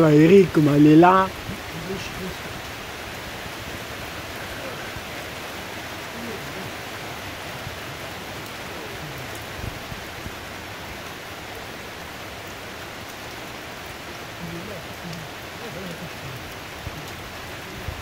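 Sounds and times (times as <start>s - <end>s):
rain on a metal roof: 0.0s - 18.0s.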